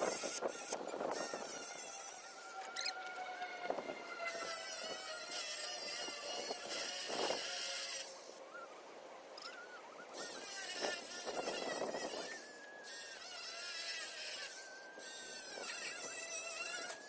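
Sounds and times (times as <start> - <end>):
power tool cutting metal: 0.0 - 8.4, 10.1 - 17.0.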